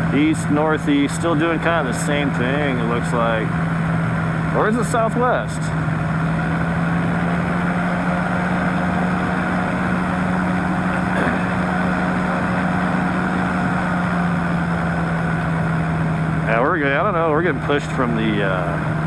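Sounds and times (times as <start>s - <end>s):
engine and propeller drone: 0.0s - 19.0s.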